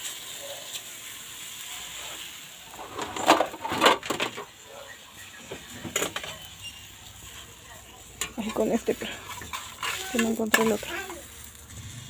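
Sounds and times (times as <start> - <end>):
pan and utensil clattering on grate: 1.6 - 4.6, 5.3 - 12.0.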